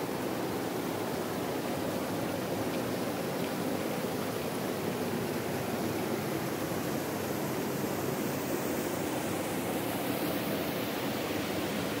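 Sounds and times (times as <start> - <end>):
river running over stones: 0.0 - 12.0.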